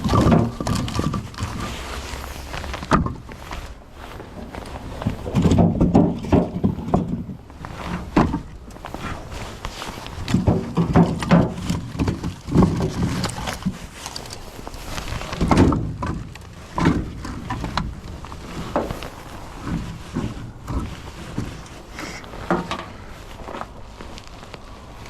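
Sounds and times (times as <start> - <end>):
firewood pieces clunking: 0.0 - 24.3.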